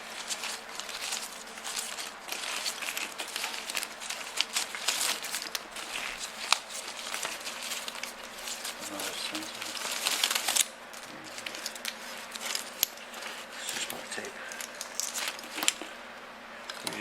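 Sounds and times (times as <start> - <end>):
plastic wire loom crinkling: 0.0 - 16.0.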